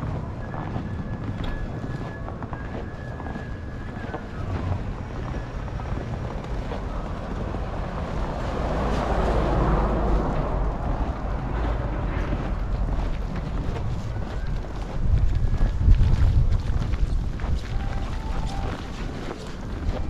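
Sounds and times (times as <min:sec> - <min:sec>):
tyres on snow: 0:00.0 - 0:20.0
wind rumble on microphone: 0:00.0 - 0:20.0.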